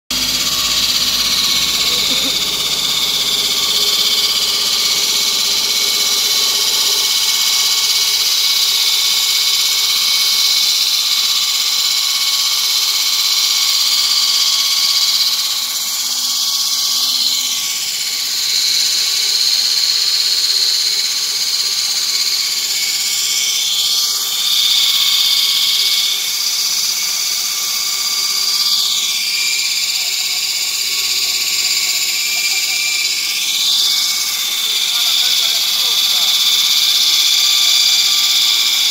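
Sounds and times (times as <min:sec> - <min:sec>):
wall saw cutting concrete: 0:00.1 - 0:38.9.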